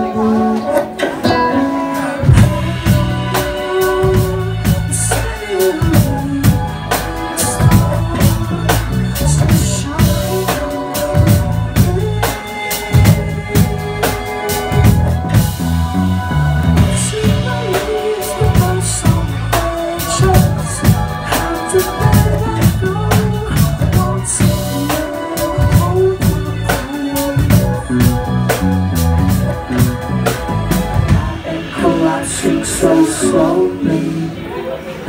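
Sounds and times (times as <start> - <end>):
drum kit beat: 0.0 - 34.6
guitar: 0.0 - 35.0.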